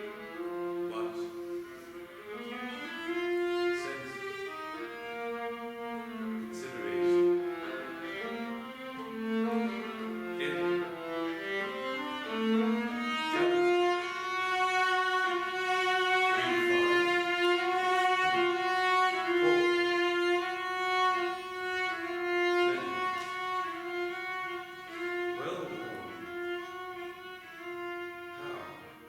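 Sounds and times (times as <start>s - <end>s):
bowed strings holding long notes: 0.0s - 29.0s.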